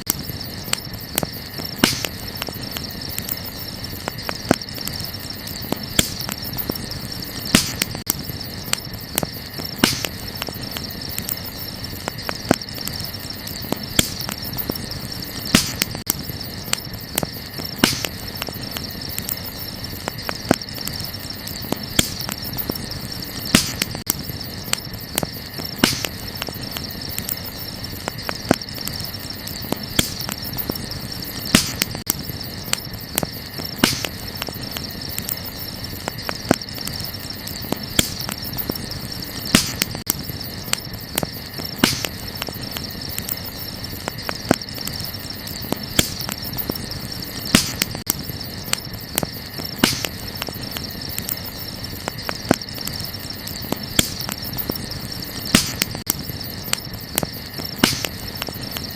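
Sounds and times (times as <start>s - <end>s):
insect trill: 0.0s - 58.9s
wood fire crackling: 0.0s - 58.9s.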